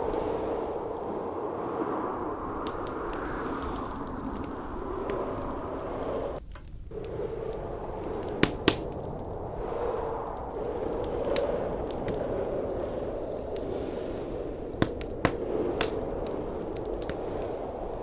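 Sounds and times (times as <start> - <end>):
blizzard wind roaring: 0.0 - 18.0
wood fire crackling and popping: 0.0 - 18.0.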